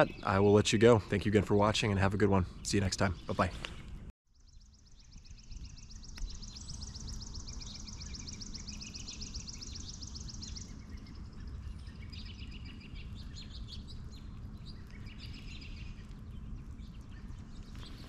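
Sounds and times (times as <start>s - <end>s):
low outdoor rumble: 0.0s - 4.1s, 6.7s - 18.0s
songbirds singing: 0.0s - 18.0s.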